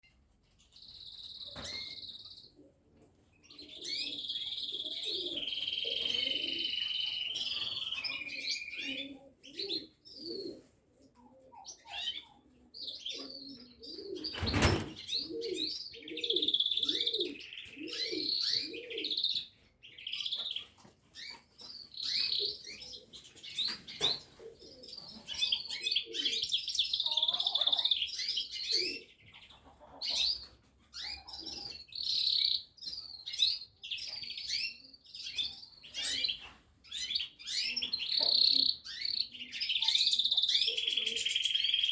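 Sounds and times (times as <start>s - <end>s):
songbirds chirping and singing: 0.0s - 41.9s.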